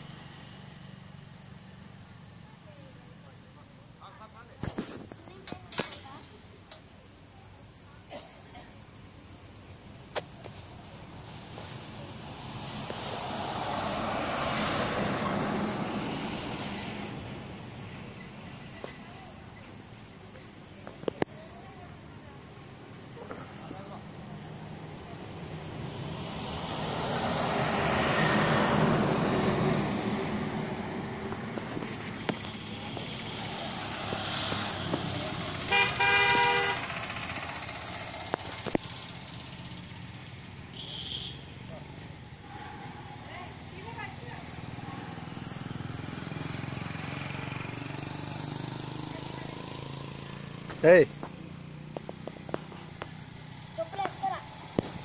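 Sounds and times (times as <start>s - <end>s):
high-pitched insect drone: 0.0s - 55.0s
road vehicles passing: 0.0s - 55.0s.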